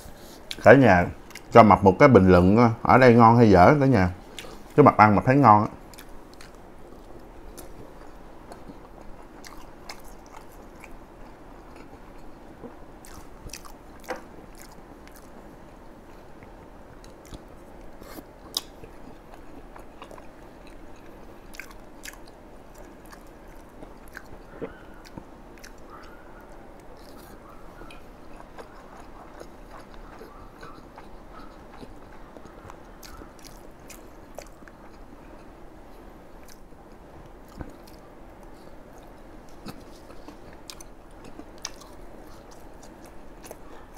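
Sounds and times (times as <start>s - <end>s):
person chewing food: 4.3s - 4.8s, 5.8s - 43.9s.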